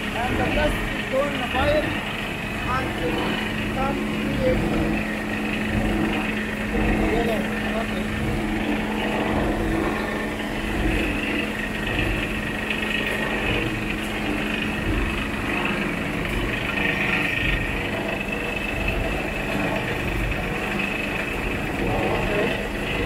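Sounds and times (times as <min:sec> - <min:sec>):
plastic shredding machine running: 0:00.0 - 0:23.0.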